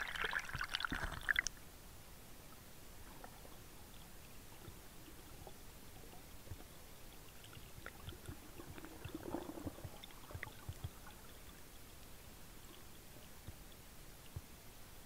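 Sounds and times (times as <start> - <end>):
water gurgling: 0.0 - 1.6, 2.5 - 14.4
muffled underwater water noise: 0.0 - 15.0.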